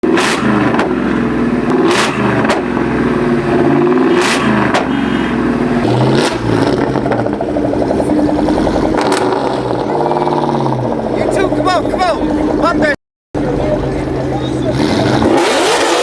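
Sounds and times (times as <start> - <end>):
car engine revving: 0.0 - 16.0
exhaust bangs: 0.0 - 16.0.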